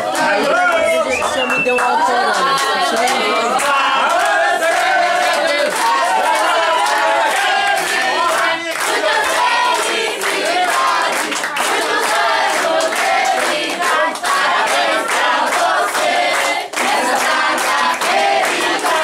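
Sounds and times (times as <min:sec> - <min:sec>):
group singing a celebration song: 0:00.0 - 0:19.0
people clapping along: 0:00.0 - 0:19.0.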